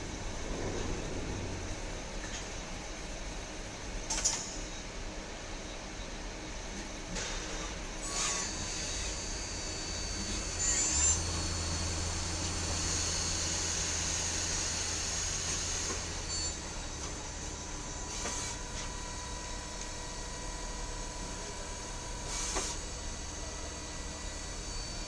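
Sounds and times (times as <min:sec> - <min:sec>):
lathe humming with high whine: 0:04.8 - 0:25.0.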